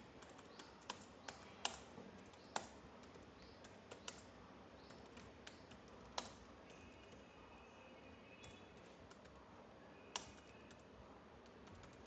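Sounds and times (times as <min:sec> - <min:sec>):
faint keyboard typing: 0:00.0 - 0:07.5, 0:08.4 - 0:12.0.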